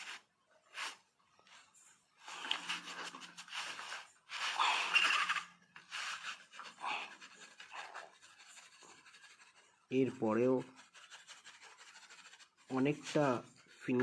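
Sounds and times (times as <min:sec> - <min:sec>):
hand tool scraping clay: 0:02.3 - 0:14.0.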